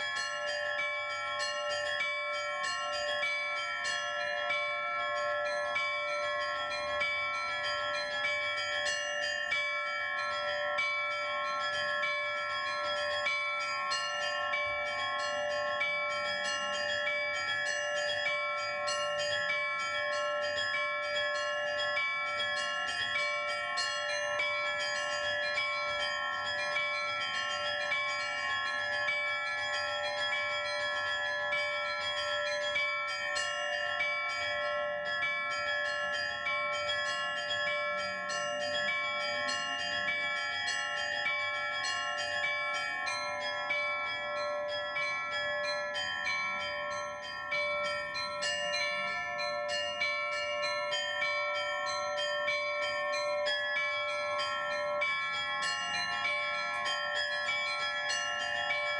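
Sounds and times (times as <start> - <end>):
large bells ringing: 0.0 - 58.9
small bells ringing quick patterns: 0.0 - 58.9.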